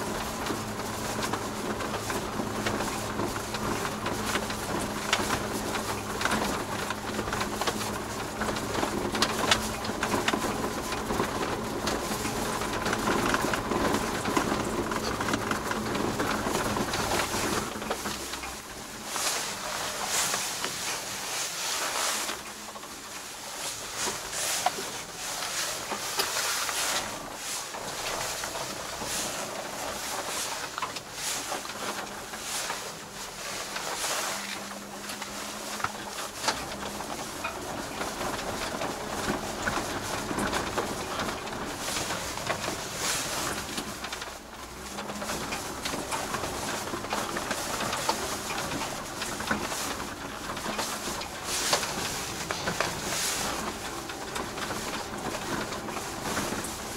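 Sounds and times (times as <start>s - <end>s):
cab rattles and knocks: 0.0s - 56.9s
road and tyre noise: 0.0s - 56.9s
truck engine hum: 0.0s - 56.9s.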